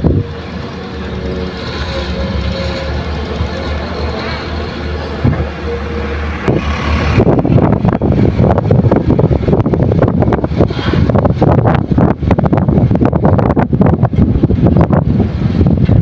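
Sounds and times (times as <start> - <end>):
diesel machinery engine running: 0.0 - 16.0.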